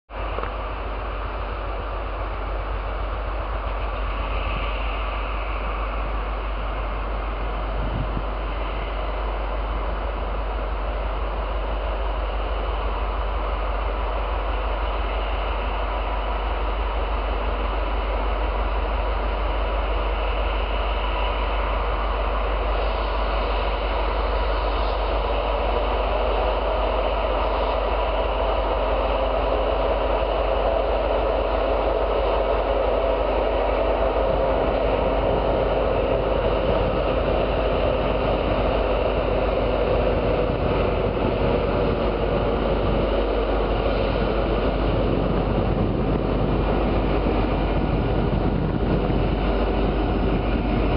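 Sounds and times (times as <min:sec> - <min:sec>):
freight train rumbling on rails: 0:00.1 - 0:50.9.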